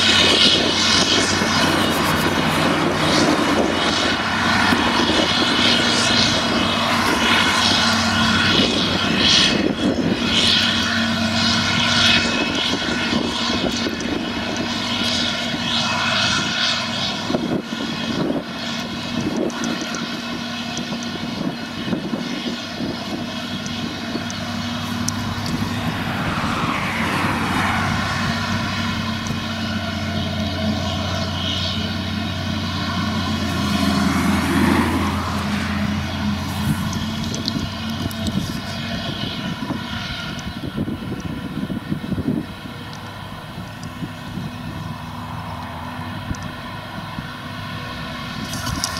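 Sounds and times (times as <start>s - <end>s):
forage harvester droning: 0.0s - 48.9s.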